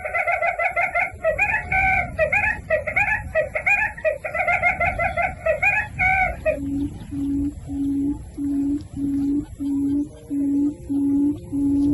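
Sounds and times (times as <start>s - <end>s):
birds chattering: 0.0s - 11.9s.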